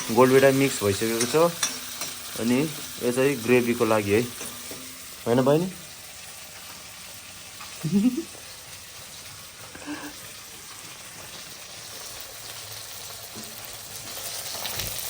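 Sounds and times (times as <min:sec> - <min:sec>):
onions frying in oil: 0:00.0 - 0:15.0.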